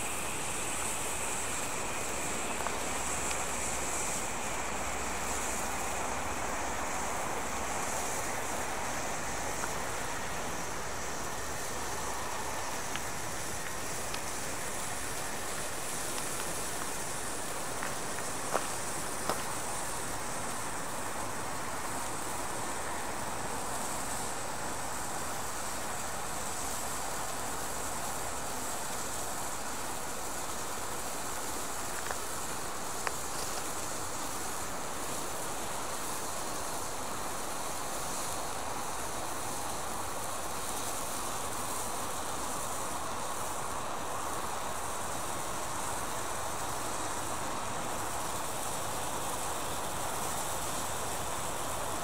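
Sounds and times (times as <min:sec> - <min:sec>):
hand flare hissing: 0:00.0 - 0:52.0.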